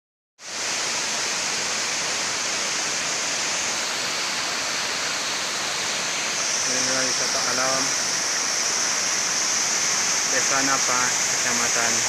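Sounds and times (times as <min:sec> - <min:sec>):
waterfall rushing into a pool: 0:00.4 - 0:12.0.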